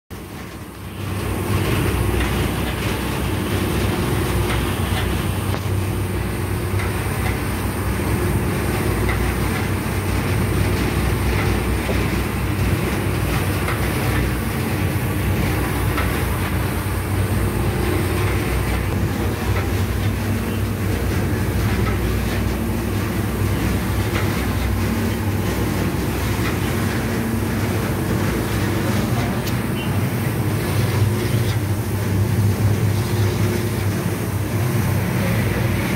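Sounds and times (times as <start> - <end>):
factory machine humming: 0.2 - 35.9.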